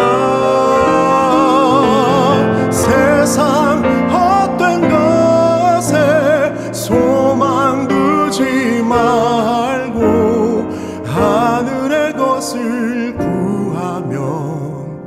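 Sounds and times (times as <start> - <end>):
grand piano: 0.0 - 15.0
man singing worship ballad: 0.0 - 15.0.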